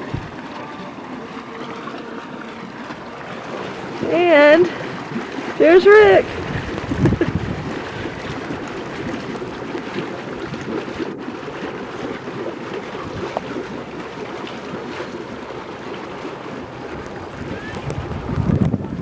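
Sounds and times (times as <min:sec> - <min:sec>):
wind on microphone: 0:00.0 - 0:02.0, 0:02.9 - 0:15.4, 0:16.2 - 0:19.0.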